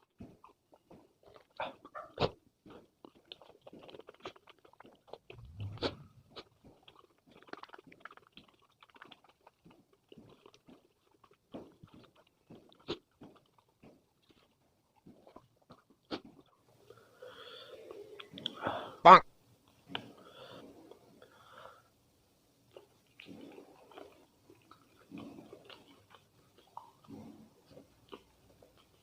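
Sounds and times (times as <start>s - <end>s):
person chewing food: 0.0s - 18.6s, 22.6s - 29.0s.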